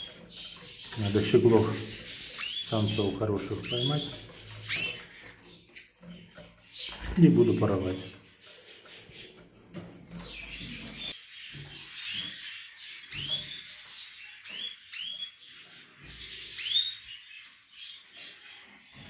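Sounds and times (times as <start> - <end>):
finches chirping: 0.0 - 9.4, 10.1 - 19.0.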